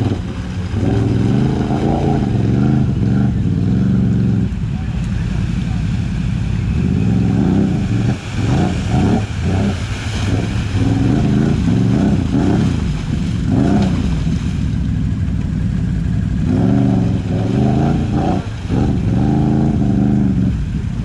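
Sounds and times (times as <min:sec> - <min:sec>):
quad engine revving: 0:00.0 - 0:15.0, 0:16.1 - 0:20.8
quad churning through muddy water: 0:00.0 - 0:21.0.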